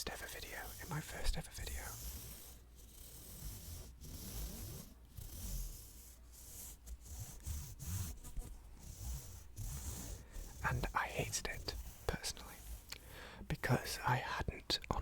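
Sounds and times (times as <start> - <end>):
rubbing and scraping on microphone: 0.0 - 15.0.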